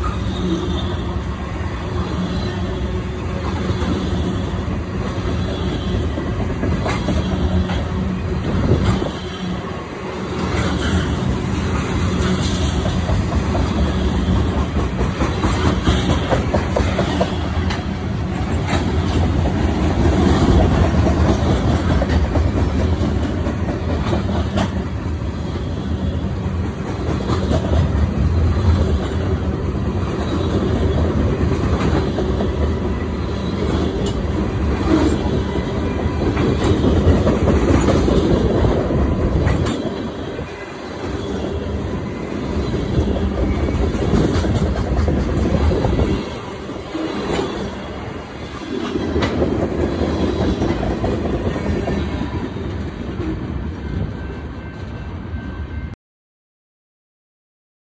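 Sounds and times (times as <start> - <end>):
train rumble: 0.0 - 56.0
train wheels clacking over rail joints: 3.4 - 9.6, 10.2 - 41.6, 42.3 - 52.4.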